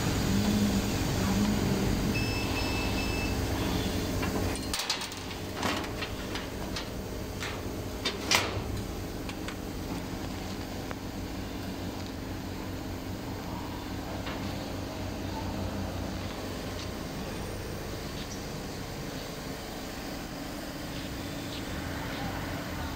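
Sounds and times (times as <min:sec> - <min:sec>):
laser cutter humming: 0:00.0 - 0:22.9.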